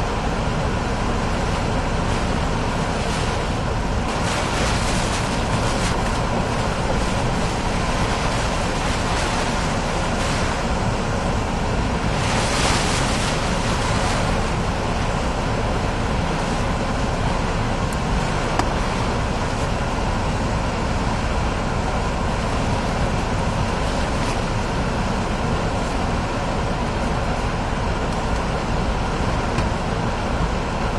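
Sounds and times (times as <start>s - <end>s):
hurricane-force wind: 0.0s - 30.9s
wind-driven rain: 0.0s - 30.9s.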